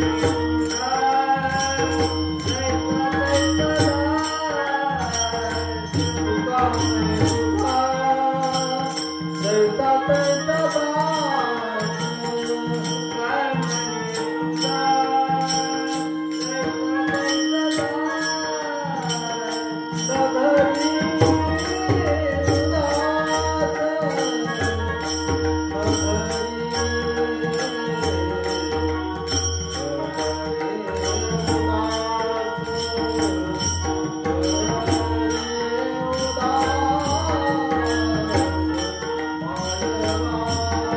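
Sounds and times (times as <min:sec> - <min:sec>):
jingling bells: 0:00.0 - 0:40.9.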